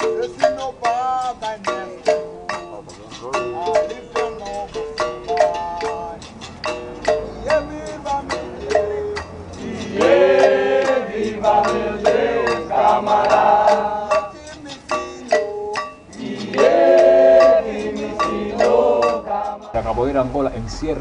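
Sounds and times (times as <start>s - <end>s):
berimbaus struck in steady beat: 0.0s - 19.8s
voices singing: 0.0s - 19.8s.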